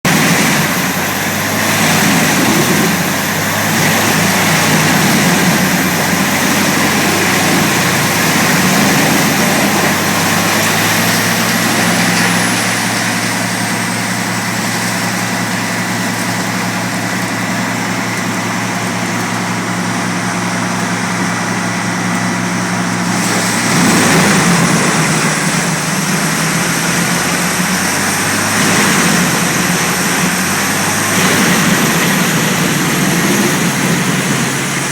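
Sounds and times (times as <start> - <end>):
wood chipper engine drone: 0.0 - 34.9.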